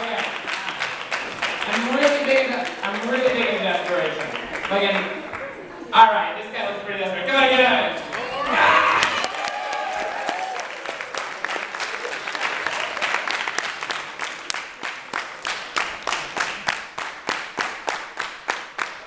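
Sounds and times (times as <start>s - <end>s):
audience applauding and cheering: 0.0s - 5.5s, 8.0s - 19.0s
rhythmic clapping in unison: 0.0s - 5.5s, 9.0s - 19.0s.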